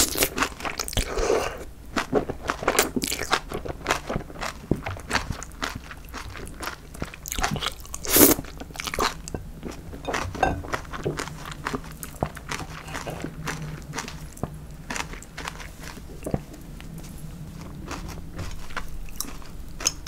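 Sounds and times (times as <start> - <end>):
chewing noodles: 0.0 - 20.0.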